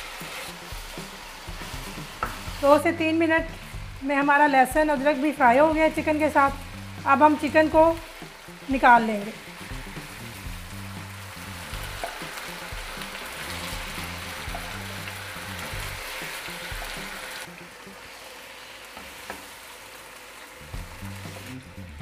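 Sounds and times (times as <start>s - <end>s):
chicken frying in hot oil: 0.0s - 2.8s, 3.4s - 22.0s.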